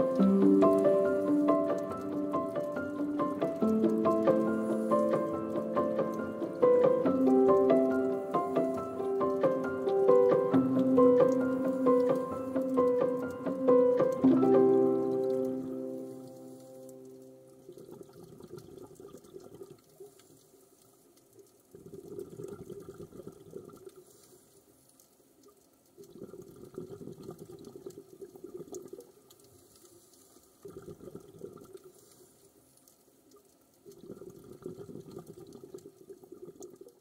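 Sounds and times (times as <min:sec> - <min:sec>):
faint water surges: 0:00.0 - 0:37.0.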